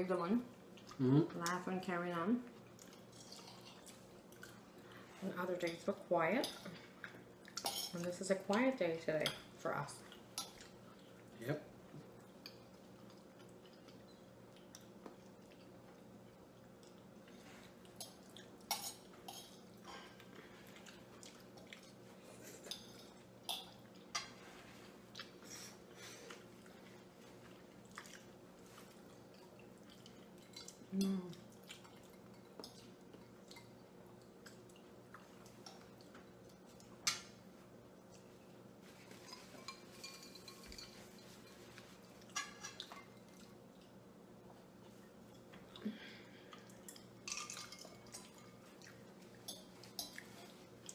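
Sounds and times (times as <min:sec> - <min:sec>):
faint steady hum: 0:00.0 - 0:50.9
quiet chewing: 0:00.5 - 0:01.6, 0:02.4 - 0:05.2, 0:10.0 - 0:50.9.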